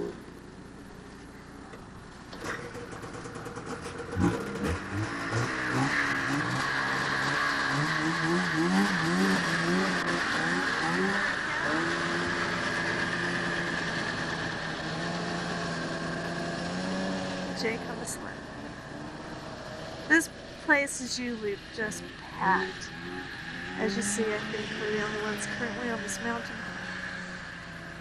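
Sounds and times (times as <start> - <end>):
snowmobile engine revving: 2.4 - 28.0.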